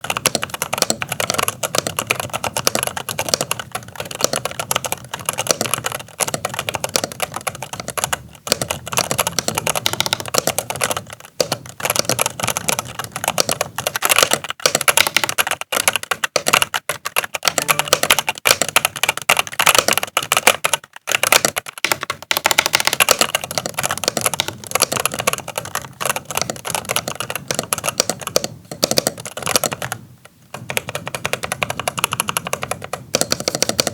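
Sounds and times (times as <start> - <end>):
mechanical keyboard typing: 0.0 - 33.9.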